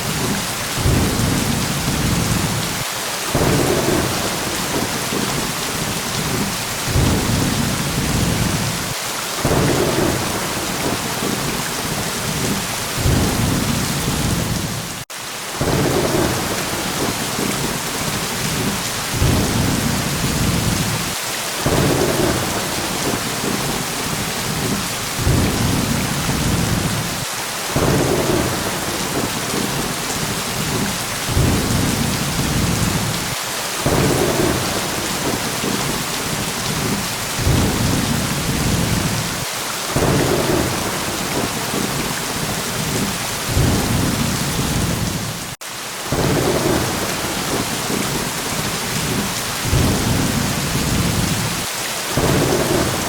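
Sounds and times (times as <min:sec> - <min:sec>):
low thunder rumbles: 0:00.0 - 0:15.0, 0:15.6 - 0:53.0
heavy rain hissing: 0:00.0 - 0:53.0.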